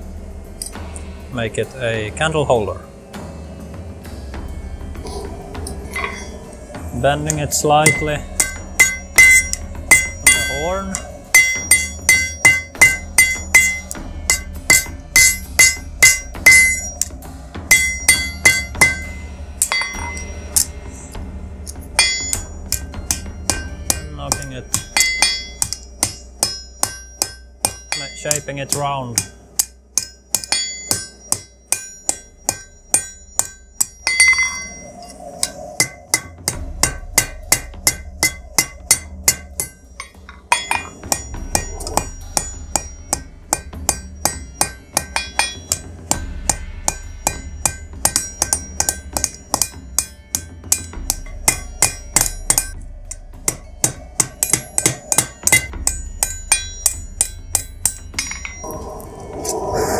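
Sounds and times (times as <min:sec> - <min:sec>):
hammer striking hot steel on anvil: 0:05.0 - 0:59.9.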